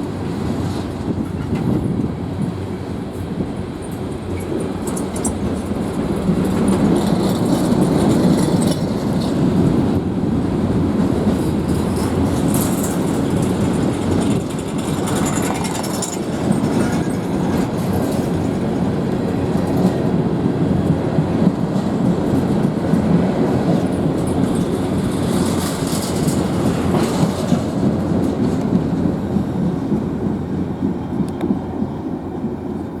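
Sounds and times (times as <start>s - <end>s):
wheels clattering over rail joints: 0.0s - 31.6s
freight train rumbling past: 0.0s - 33.0s.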